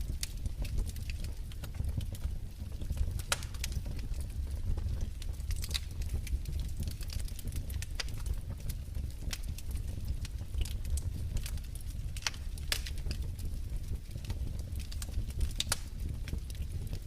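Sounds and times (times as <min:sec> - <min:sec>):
fire low rumble: 0:00.0 - 0:17.0
fireplace fire crackling: 0:00.0 - 0:17.0.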